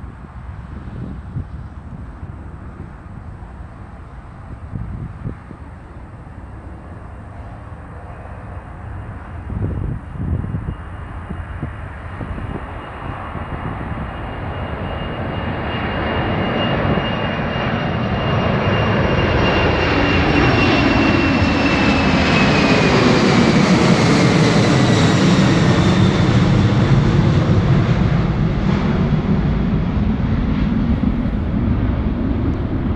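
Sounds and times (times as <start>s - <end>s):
jet airliner passing: 0.0s - 32.9s.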